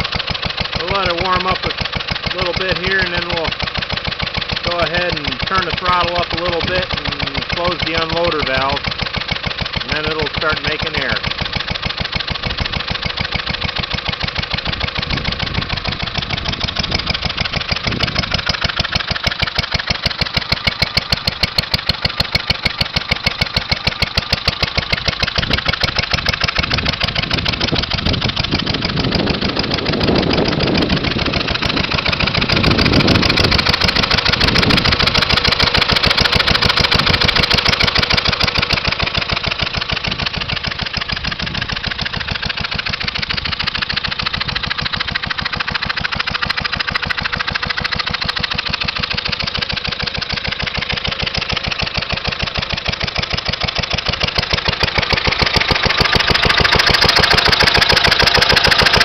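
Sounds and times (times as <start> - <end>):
single-cylinder gasoline engine running: 0.0 - 59.0.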